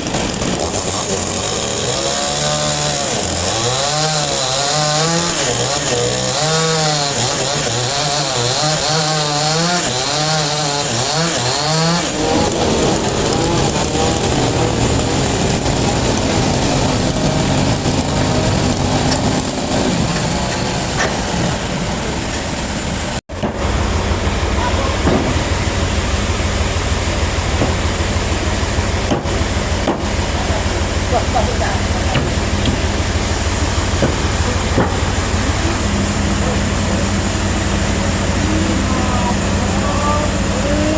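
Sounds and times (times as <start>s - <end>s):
power saw cutting wood: 0.0s - 40.9s.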